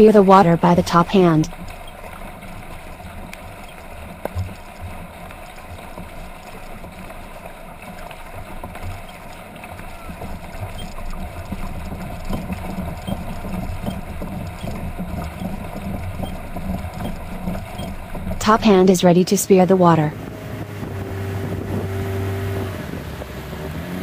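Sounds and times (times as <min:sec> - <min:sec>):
paddle strokes splashing: 0:00.0 - 0:23.8
water rushing along hull: 0:00.0 - 0:24.0
wind rumbling on microphone: 0:01.5 - 0:19.0, 0:20.0 - 0:24.0.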